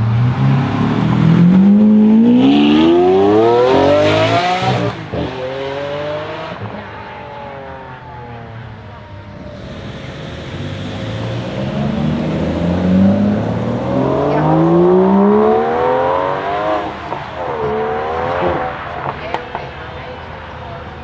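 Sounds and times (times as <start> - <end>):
car engine accelerating hard: 0.0 - 8.4, 9.4 - 19.4.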